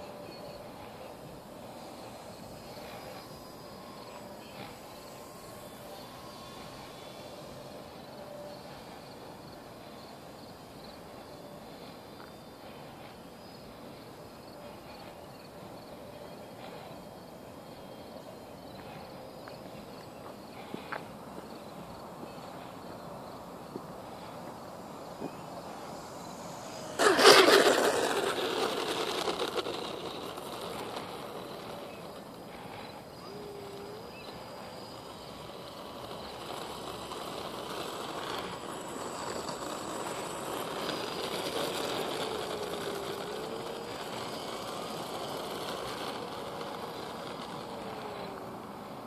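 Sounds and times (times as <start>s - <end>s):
model airplane motor humming: 0.0s - 49.0s.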